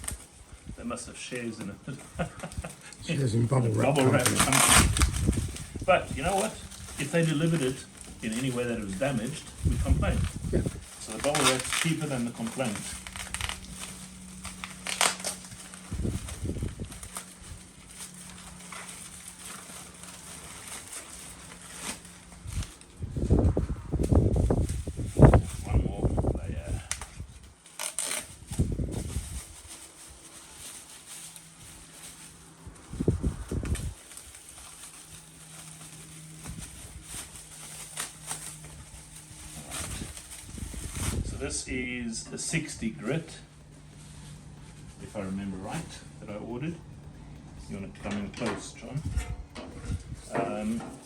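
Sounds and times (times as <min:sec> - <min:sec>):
bubble wrap crinkling: 0:00.0 - 0:48.0.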